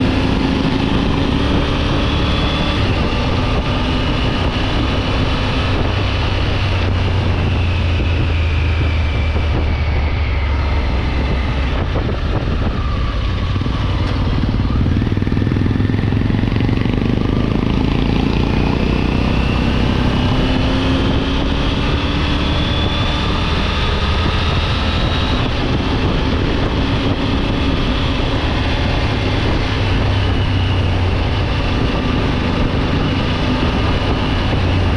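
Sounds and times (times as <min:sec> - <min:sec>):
motorcycle engine running: 0:00.0 - 0:34.9
wind and road noise: 0:00.0 - 0:34.9.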